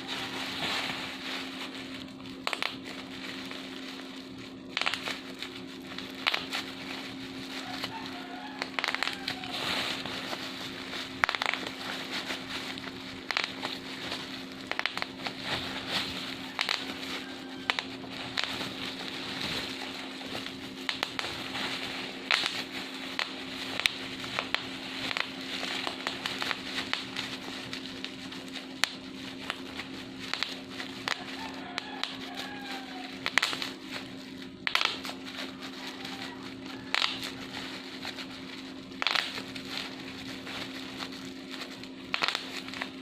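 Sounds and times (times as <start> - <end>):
bubble wrap crackling and popping: 0.0 - 43.0
faint steady hum: 0.0 - 43.0.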